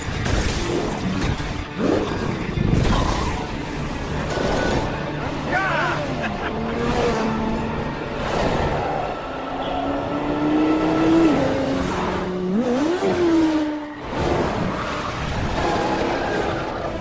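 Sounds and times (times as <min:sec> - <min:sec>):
motorcycle engine racing: 0:00.0 - 0:17.0.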